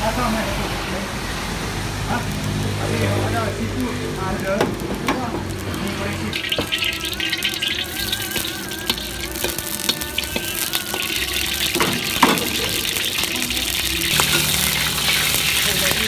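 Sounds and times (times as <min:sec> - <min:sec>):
prawns sizzling in hot oil: 0:01.6 - 0:16.0.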